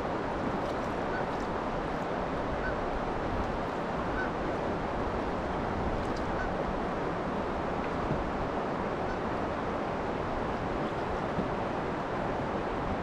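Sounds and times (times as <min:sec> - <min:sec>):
river current: 0:00.0 - 0:13.0
wind: 0:00.0 - 0:13.0.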